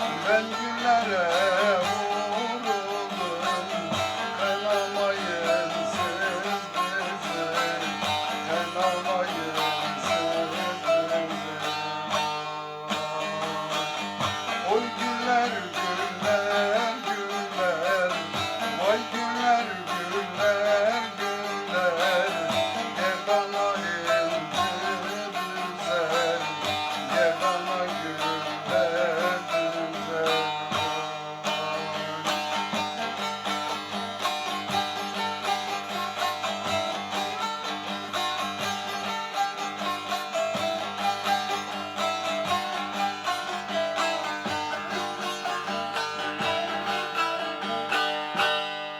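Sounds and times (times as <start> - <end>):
plucked string instrumental music: 0.0 - 48.9.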